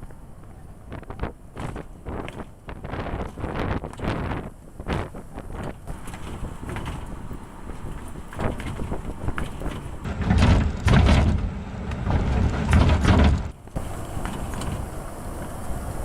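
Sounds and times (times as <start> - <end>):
road noise: 0.0 - 16.0
truck rumbling with clatter: 0.0 - 16.0
wind on microphone: 0.0 - 16.0.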